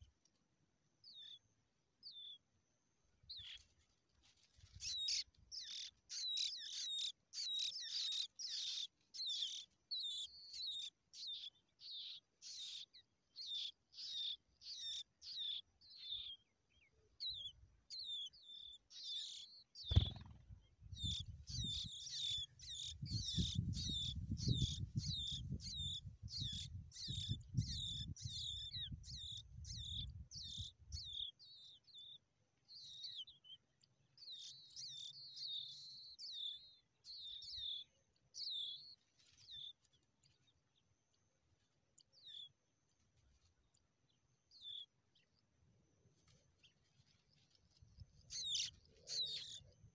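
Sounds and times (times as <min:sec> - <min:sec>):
nestlings begging chirps: 0:01.0 - 0:01.4, 0:02.0 - 0:02.4, 0:04.4 - 0:40.9, 0:41.6 - 0:42.6, 0:43.3 - 0:45.4, 0:46.0 - 0:49.9.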